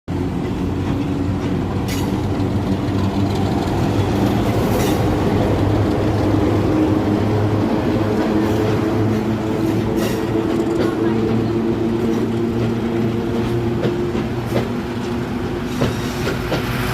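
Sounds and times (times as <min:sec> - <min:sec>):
train engine drone: 0:00.1 - 0:16.9
wheels rumbling on rails: 0:00.1 - 0:16.9.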